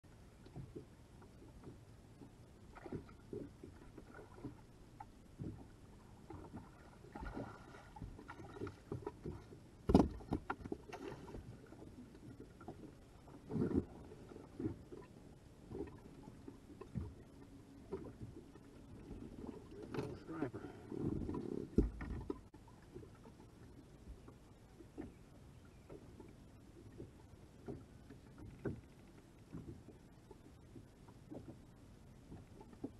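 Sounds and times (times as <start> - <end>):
water slapping boat hull: 0.1 - 32.9
knocks and thumps on boat: 0.5 - 23.4, 25.8 - 32.9.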